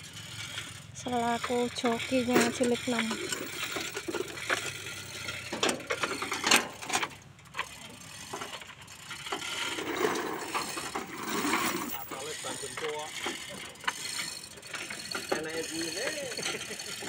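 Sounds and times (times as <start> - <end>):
metal clanks: 0.1 - 17.0
ratchet clicking: 0.1 - 17.0.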